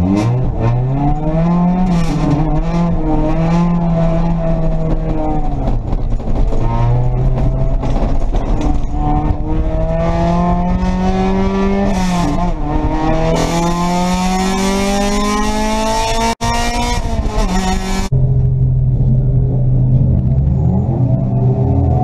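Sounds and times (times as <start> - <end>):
race car engine accelerating: 0.0 - 18.2.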